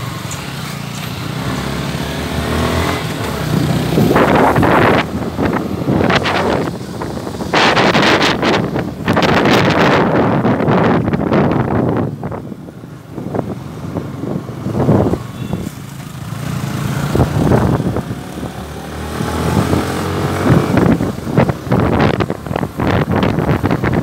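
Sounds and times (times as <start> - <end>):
wind buffeting microphone: 2.6 - 24.0.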